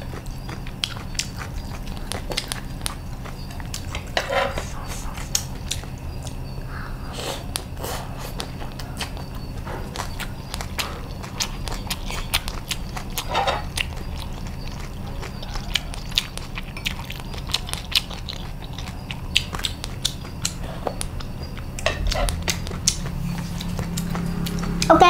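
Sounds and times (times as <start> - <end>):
crisp wet chewing clicks: 0.0 - 4.1, 5.2 - 6.4, 7.5 - 25.0.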